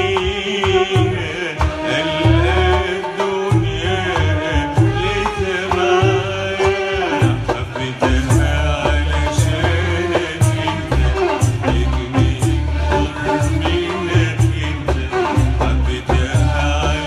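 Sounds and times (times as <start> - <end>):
low drum beat: 0.0 - 17.0
man singing ornamented phrases: 0.0 - 17.0.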